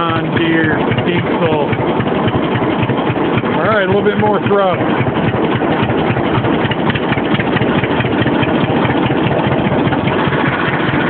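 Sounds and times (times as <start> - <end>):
tractor engine fast idle: 0.0 - 11.0.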